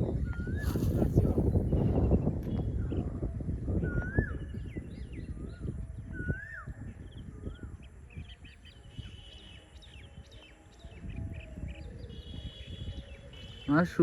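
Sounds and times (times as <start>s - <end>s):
birds chirping: 0.4s - 14.0s.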